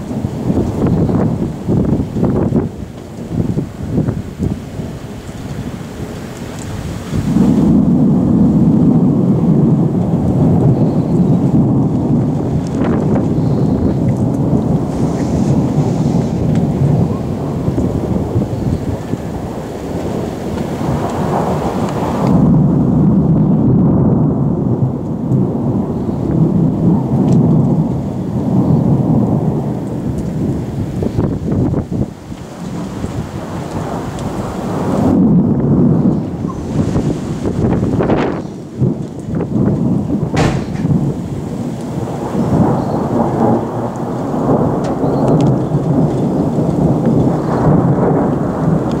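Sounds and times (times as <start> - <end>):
rain falling: 0.0 - 49.0
thunder rumbling: 0.0 - 49.0.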